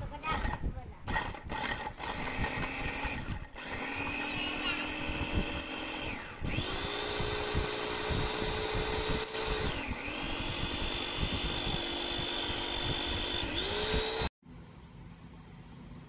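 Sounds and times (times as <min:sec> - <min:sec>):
food chopper motor whining: 0:00.3 - 0:14.3.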